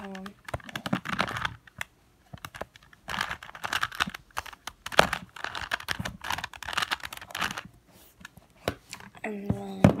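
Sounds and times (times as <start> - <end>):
puzzle cube plastic layers clicking: 0.0 - 9.1.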